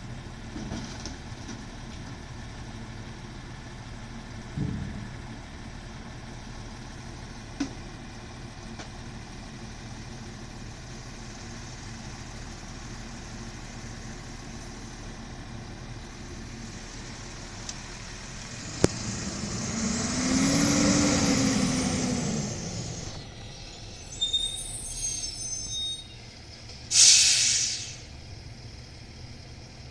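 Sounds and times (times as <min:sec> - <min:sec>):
truck engine idling and revving: 0:00.0 - 0:29.9.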